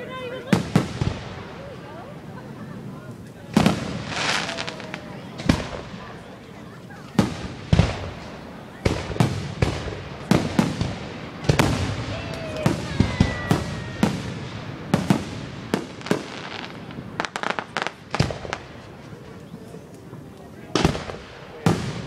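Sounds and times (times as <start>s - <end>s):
fireworks bangs: 0.0s - 22.0s
fireworks crackling: 0.0s - 22.0s.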